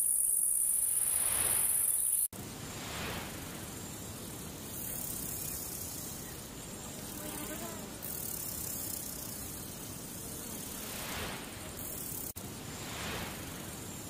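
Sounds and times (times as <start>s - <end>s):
static hiss: 0.0s - 14.0s.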